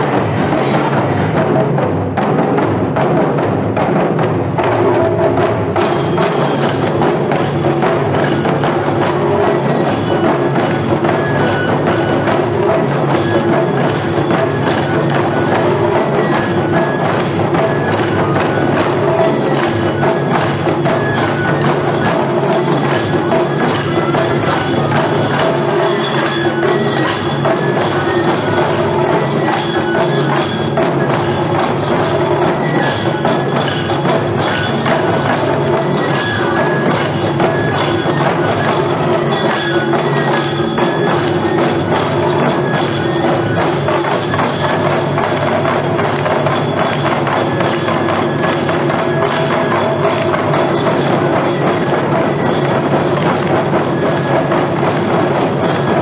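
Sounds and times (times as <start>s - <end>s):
taiko drums rhythm: 0.0s - 56.0s.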